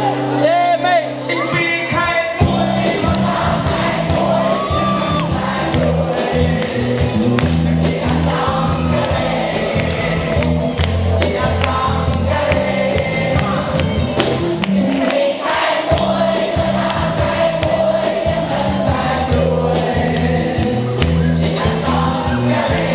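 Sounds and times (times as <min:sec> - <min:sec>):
music with singing: 0:00.0 - 0:22.9
sustained bass line: 0:01.9 - 0:15.3, 0:15.9 - 0:22.9.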